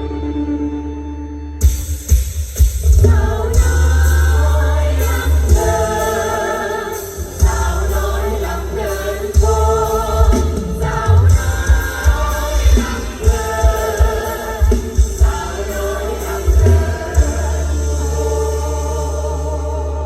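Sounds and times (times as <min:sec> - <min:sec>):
heavy bass: 0:00.0 - 0:20.0
music with singing: 0:01.6 - 0:20.0.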